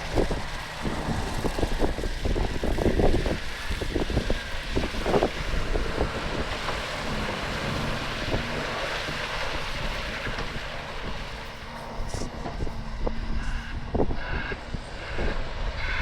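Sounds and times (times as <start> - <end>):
heavy machinery diesel hum: 0.0 - 16.0
wind buffeting microphone: 0.0 - 16.0.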